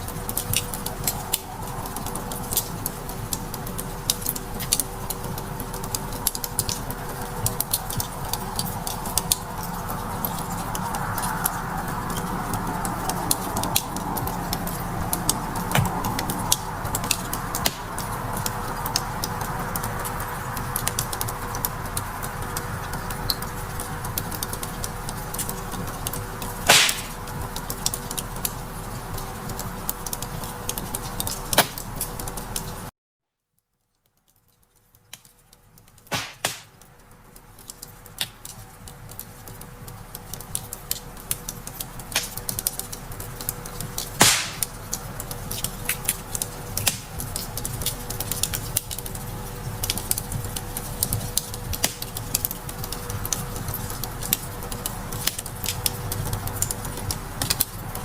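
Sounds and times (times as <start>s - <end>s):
fire pops and snaps: 0.0s - 32.8s, 34.2s - 58.0s
wood fire crackling: 0.0s - 32.9s, 33.8s - 58.0s.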